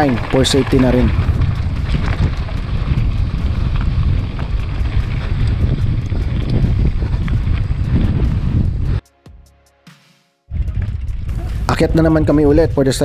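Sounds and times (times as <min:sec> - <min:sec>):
bike rattling on gravel: 0:00.0 - 0:09.0, 0:10.5 - 0:13.0
wind buffeting microphone: 0:00.0 - 0:09.0, 0:10.5 - 0:13.0.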